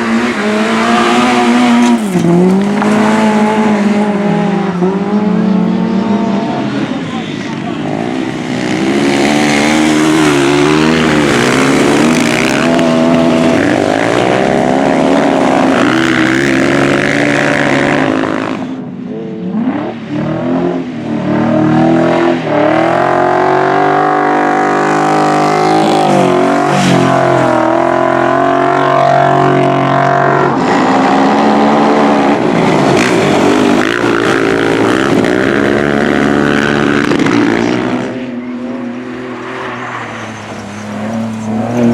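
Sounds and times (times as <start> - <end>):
racing engines revving: 0.0 - 41.9.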